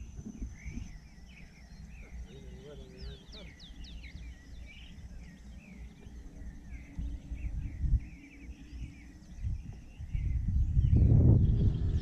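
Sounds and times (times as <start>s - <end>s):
birds chirping: 0.0s - 12.0s
faint high whine: 0.0s - 12.0s
low uneven rumble: 0.0s - 12.0s.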